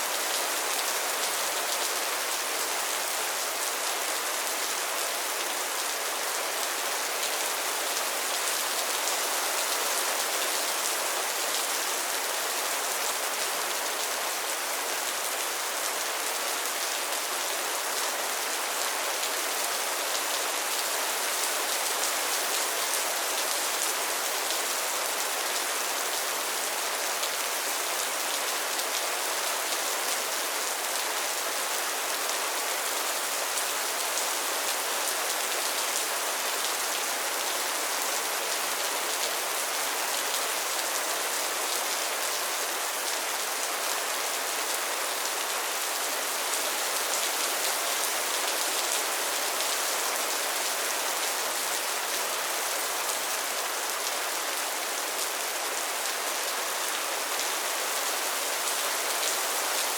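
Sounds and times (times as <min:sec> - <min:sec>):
rain falling on pond: 0:00.0 - 0:59.9.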